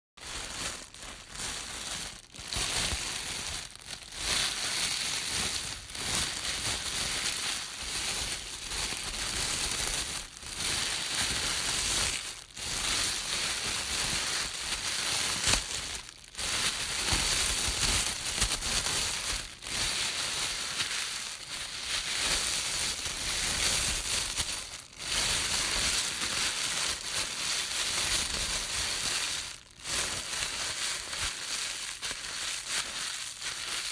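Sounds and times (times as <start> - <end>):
plastic bag crinkling: 0.2 - 33.9.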